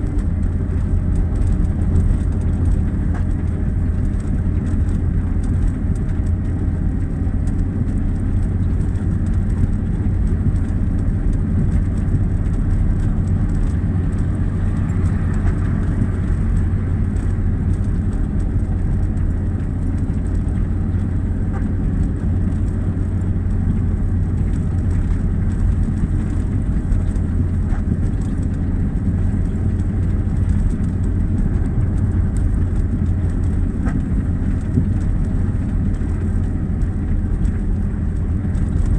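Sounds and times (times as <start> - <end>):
engine humming steadily: 0.0 - 38.9.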